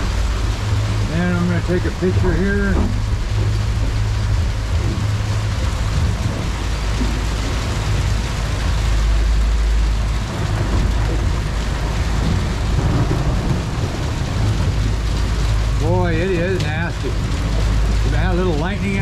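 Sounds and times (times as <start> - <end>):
hail and rain on boat: 0.0 - 19.0
outboard motors running: 0.0 - 19.0.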